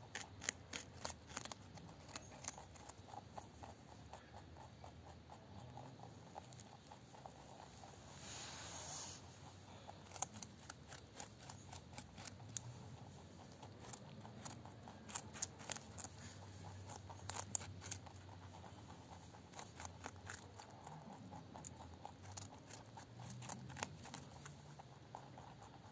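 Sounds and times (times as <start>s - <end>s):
rabbits crunching carrots: 0.0s - 25.9s.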